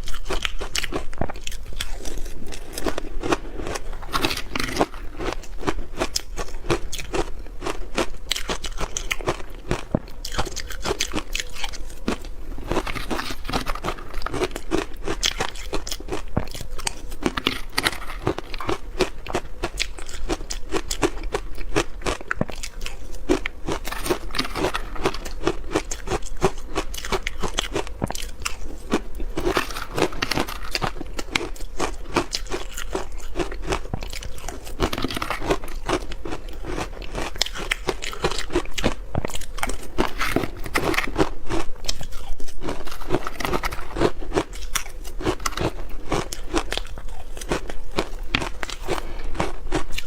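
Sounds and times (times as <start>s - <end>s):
person crunching ice: 0.0s - 50.0s.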